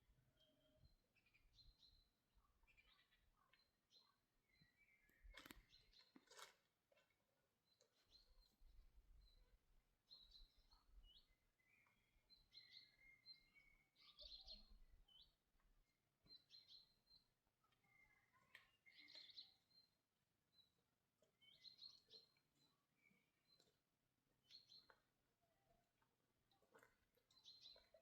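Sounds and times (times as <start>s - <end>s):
small birds chirping: 0.1s - 28.0s.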